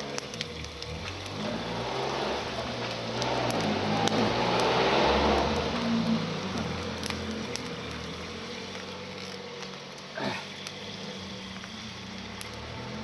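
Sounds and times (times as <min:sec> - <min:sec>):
twig fire crackling and popping: 0:00.0 - 0:13.0.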